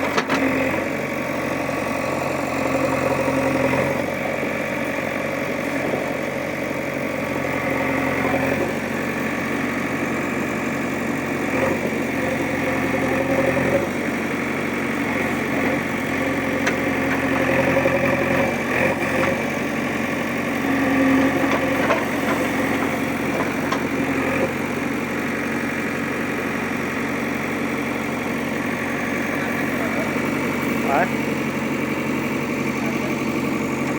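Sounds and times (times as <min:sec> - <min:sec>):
vehicle engine idling: 0:00.0 - 0:33.9.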